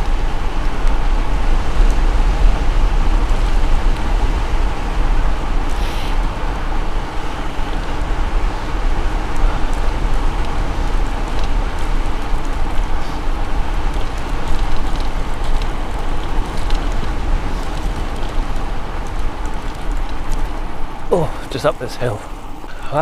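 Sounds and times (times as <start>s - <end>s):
bicycle tyre and road noise: 0.0s - 23.0s
wind buffeting microphone: 0.0s - 23.0s.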